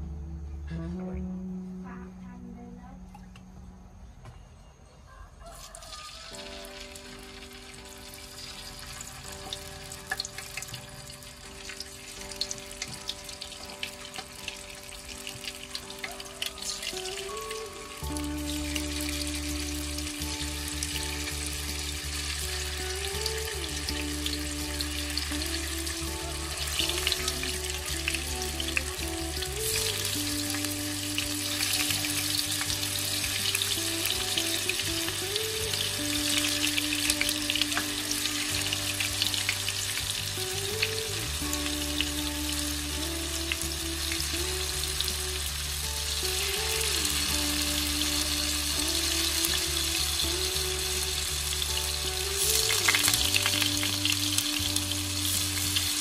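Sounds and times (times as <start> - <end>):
tofu sizzling in hot oil: 5.7 - 56.0.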